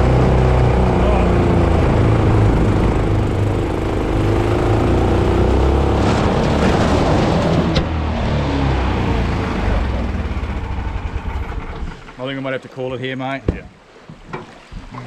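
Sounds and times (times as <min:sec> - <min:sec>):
small outboard motor running: 0:00.0 - 0:12.5.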